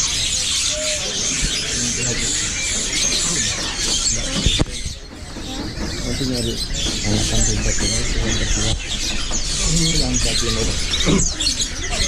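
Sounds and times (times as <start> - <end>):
faint voices: 0.0 - 12.0
songbirds chirping and twittering: 0.0 - 12.0.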